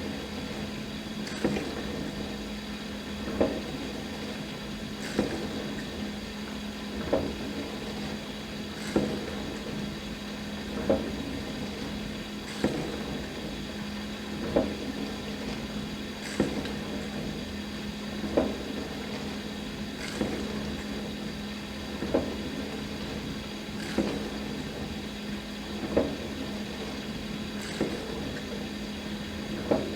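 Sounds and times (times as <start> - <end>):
dishwasher pump hum: 0.0 - 29.9.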